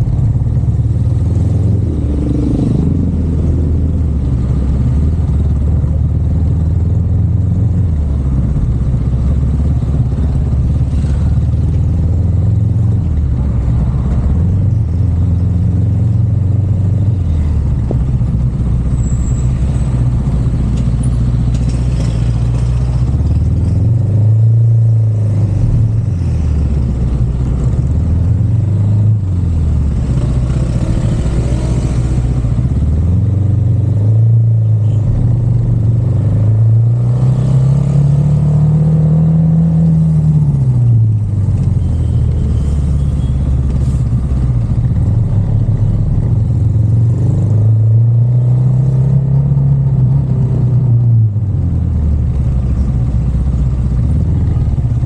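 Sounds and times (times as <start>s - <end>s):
road rumble: 0.0s - 55.0s
car engine revving while driving: 0.1s - 18.9s, 19.6s - 55.0s.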